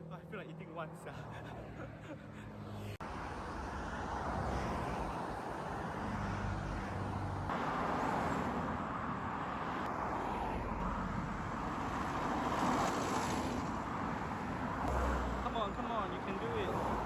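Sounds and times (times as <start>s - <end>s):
passing motor traffic: 0.0s - 17.0s.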